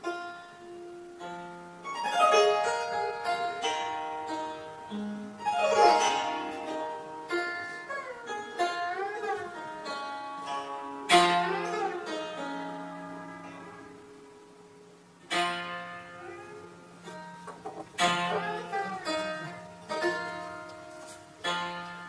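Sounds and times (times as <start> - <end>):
plucked zither notes: 0.0 - 22.0.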